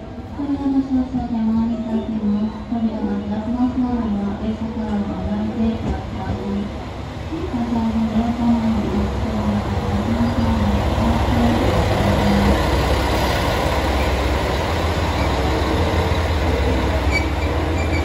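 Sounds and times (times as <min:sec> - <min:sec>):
diesel train rumbling: 0:00.0 - 0:18.0.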